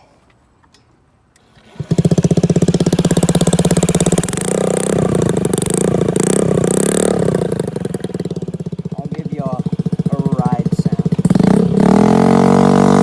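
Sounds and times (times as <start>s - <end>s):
scooter engine revving: 1.4s - 13.0s.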